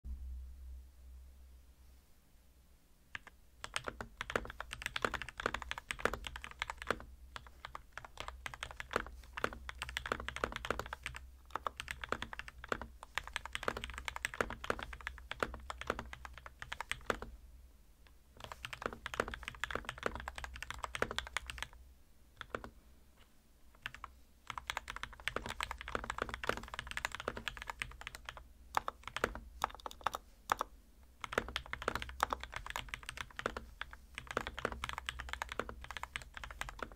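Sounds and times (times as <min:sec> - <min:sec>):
typing on mechanical keyboard: 0:03.1 - 0:17.3, 0:18.4 - 0:21.8, 0:22.4 - 0:22.7, 0:23.8 - 0:36.9.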